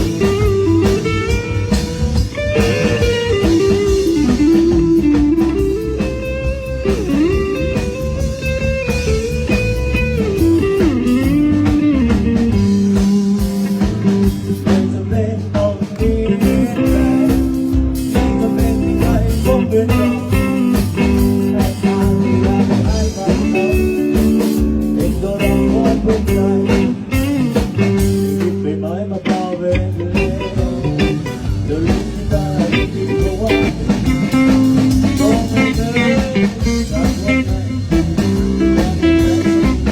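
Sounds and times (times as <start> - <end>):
bluesy guitar band music: 0.0 - 39.9.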